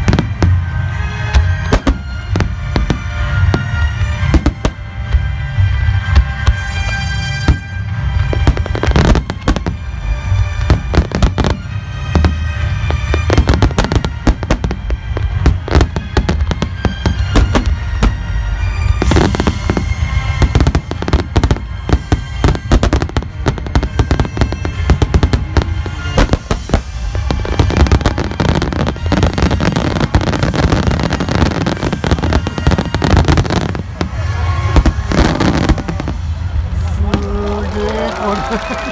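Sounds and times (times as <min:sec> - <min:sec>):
fireworks booming and crackling: 0:00.0 - 0:38.9
music playing: 0:00.0 - 0:38.9.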